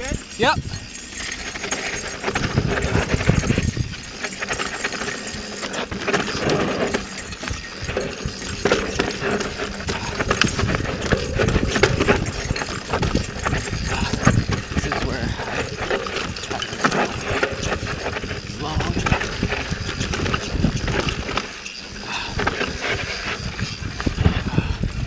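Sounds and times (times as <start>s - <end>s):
bike rattling over bumps: 0.0s - 25.0s
bike tyres crunching over dirt: 0.0s - 25.0s.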